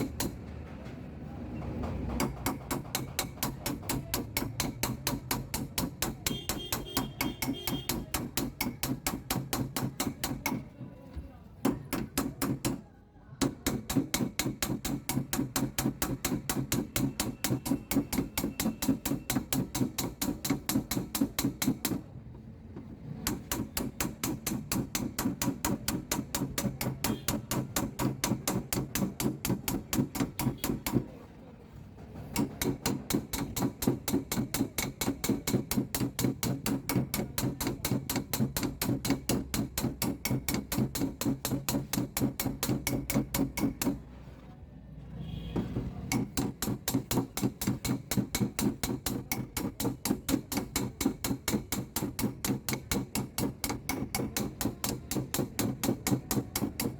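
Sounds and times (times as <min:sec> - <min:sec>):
hammer tapping sheet metal: 0:00.0 - 0:01.0, 0:01.7 - 0:10.7, 0:11.6 - 0:22.2, 0:22.8 - 0:31.2, 0:32.2 - 0:44.1, 0:45.5 - 0:56.9.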